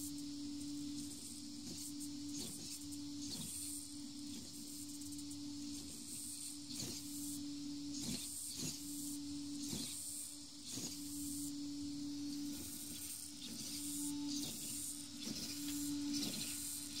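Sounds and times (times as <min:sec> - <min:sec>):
electrical hum: 0:00.0 - 0:17.0
steering servo whirring: 0:00.0 - 0:17.0.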